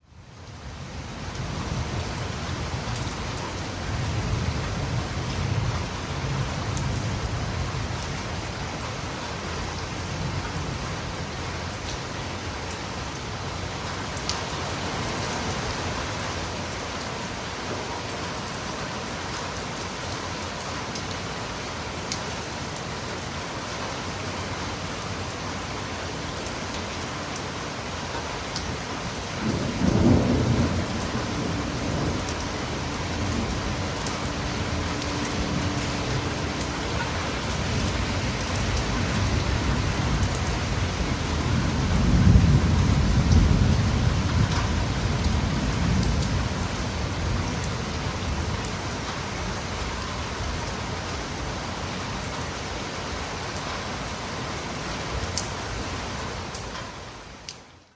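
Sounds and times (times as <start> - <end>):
rain on a tiled roof: 0.0 - 57.9.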